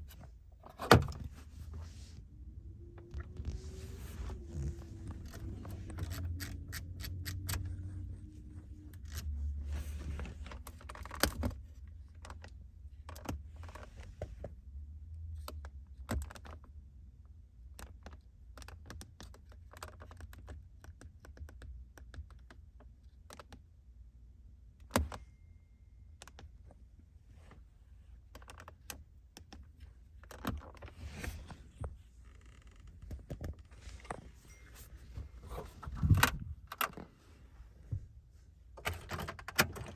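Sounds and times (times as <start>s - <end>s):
low steady rumble: 0.0s - 20.9s, 22.8s - 39.9s.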